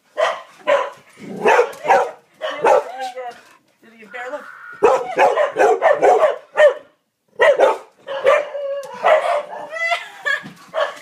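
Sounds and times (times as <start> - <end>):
dogs barking excitedly: 0.0 - 3.4, 4.8 - 11.0.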